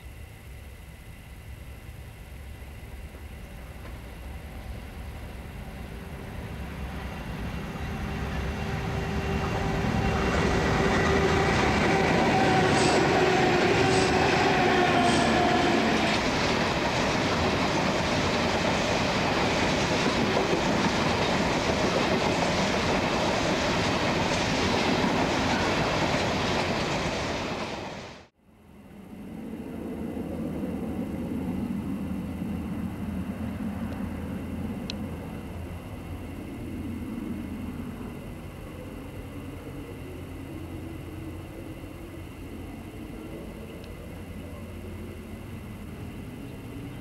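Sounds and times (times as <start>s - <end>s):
locomotive engines droning: 0.0s - 47.0s.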